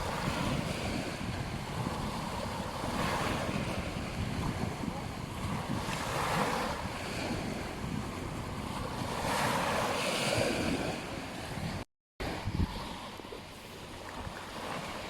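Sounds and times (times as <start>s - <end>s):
waves washing on beach: 0.0s - 15.0s
wind rumbling on microphone: 0.0s - 15.0s.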